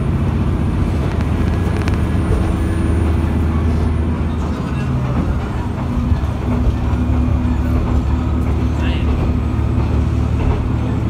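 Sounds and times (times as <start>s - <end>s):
diesel engine drone: 0.0s - 11.0s
rolling rail noise: 0.0s - 11.0s.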